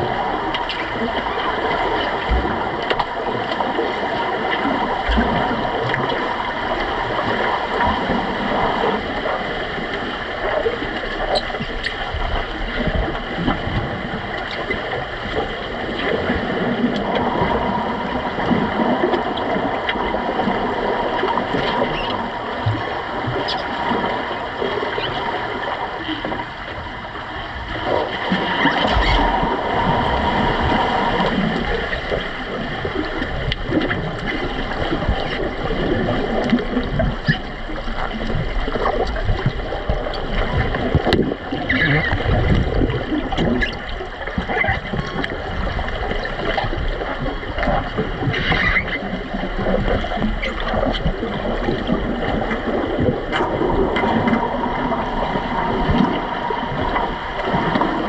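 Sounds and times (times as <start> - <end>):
clicks and knocks underwater: 0.0 - 58.0
muffled underwater rush: 0.0 - 58.0.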